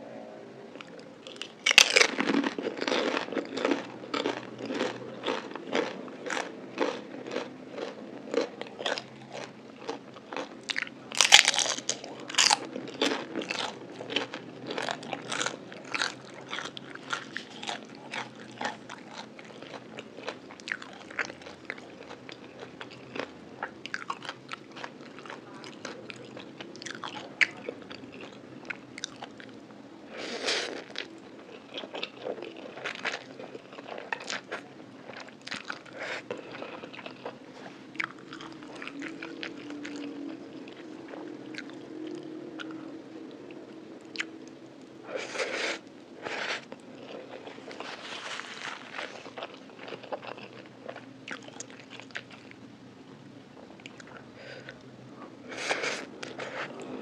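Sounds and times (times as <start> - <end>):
person chewing crispy food: 0.8 - 29.6, 30.2 - 52.6, 55.5 - 57.0.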